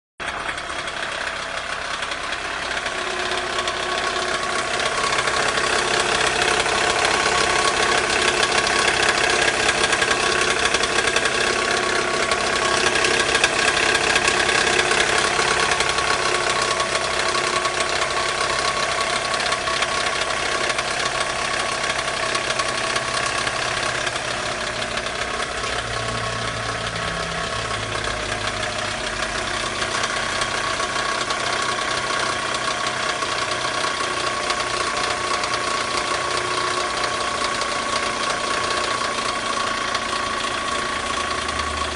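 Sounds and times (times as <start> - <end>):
car engine idling: 0.2 - 41.9.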